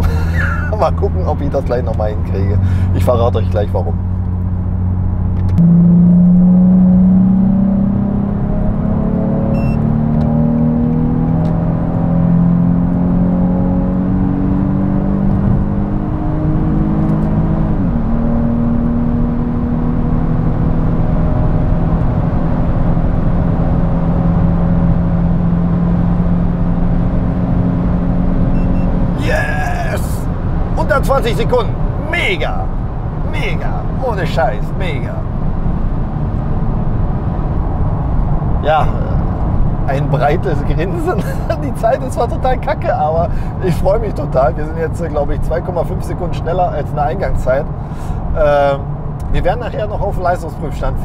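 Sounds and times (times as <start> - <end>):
car engine at full throttle: 0.0 - 51.0.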